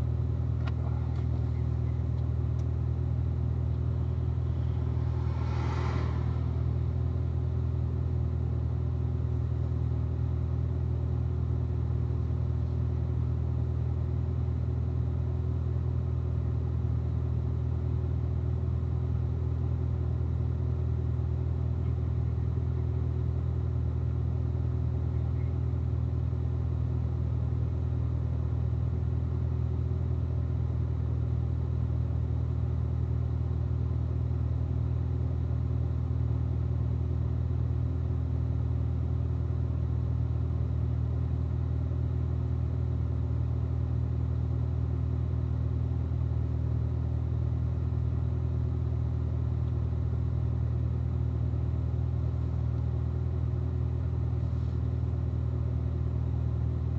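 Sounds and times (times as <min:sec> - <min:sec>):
car engine running steadily: 0:00.0 - 0:56.9.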